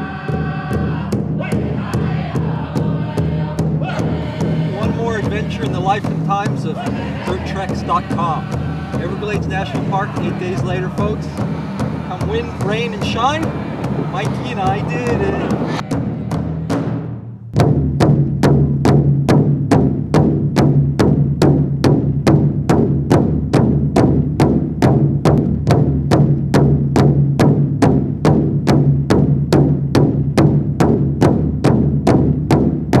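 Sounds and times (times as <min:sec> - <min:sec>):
large drum beaten in unison: 0:00.0 - 0:33.0.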